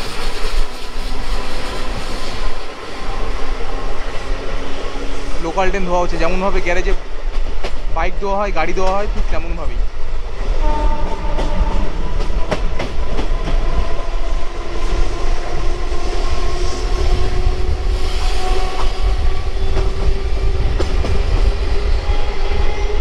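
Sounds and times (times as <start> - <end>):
electric train rumble and whine: 0.0 - 23.0.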